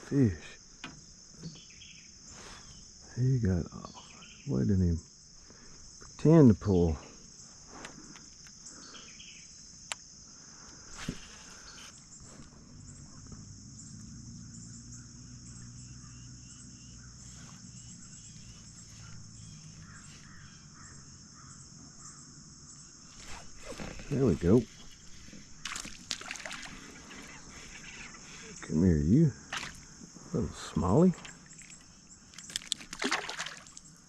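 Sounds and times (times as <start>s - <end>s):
crickets and insects trilling: 0.0s - 34.0s.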